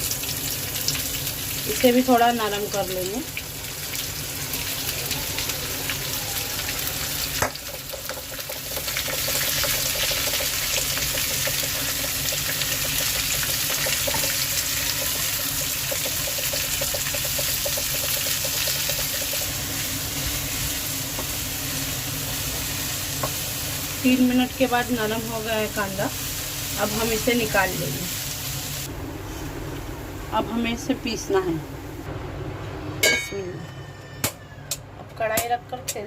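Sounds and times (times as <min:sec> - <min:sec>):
onions sizzling in hot oil: 0:00.0 - 0:31.4.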